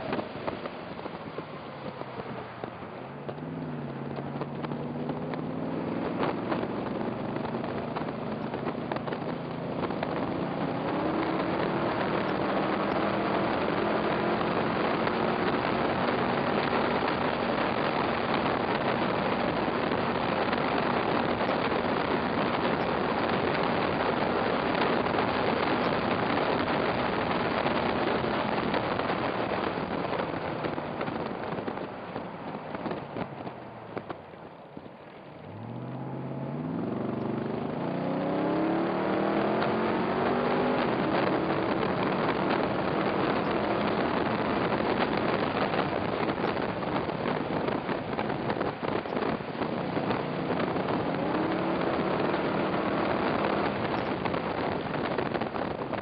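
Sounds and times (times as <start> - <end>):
car engine accelerating: 0.0 - 56.0
wind rush: 0.0 - 56.0.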